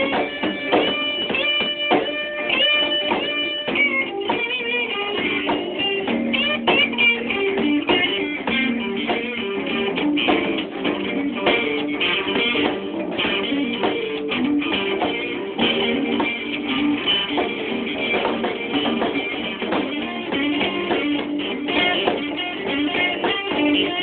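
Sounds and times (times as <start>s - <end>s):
instrumental guitar music: 0.0s - 24.0s.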